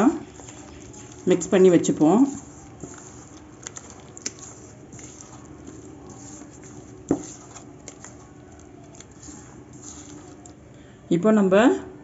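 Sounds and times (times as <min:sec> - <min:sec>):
hand squelching wet marinade: 0:00.0 - 0:10.6.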